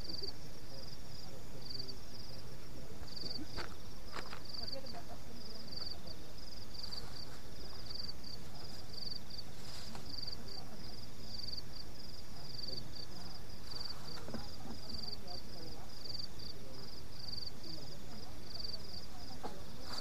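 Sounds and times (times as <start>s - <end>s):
crickets chirping: 0.0s - 20.0s
low background hiss: 0.0s - 20.0s.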